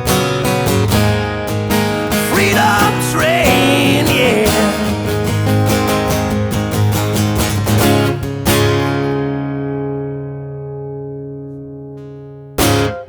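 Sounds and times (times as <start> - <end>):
strummed guitar: 0.0 - 13.0.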